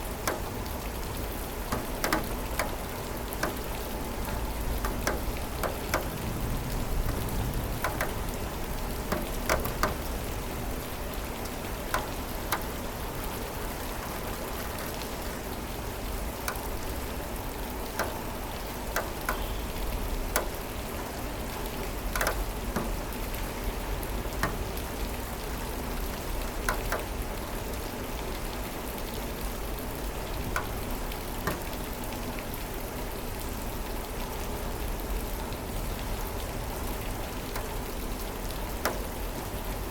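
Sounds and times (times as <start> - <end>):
raindrops tapping hard surface: 0.0 - 39.9
steady rain downpour: 0.0 - 39.9.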